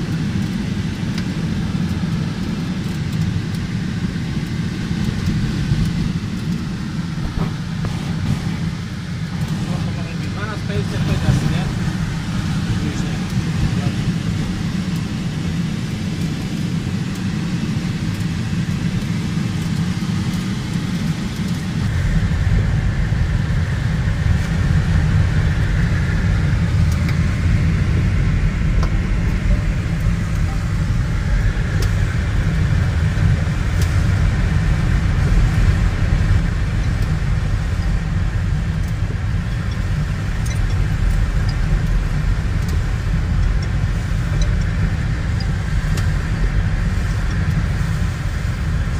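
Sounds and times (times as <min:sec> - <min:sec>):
airflow rushing past glider canopy: 0:00.0 - 0:48.9.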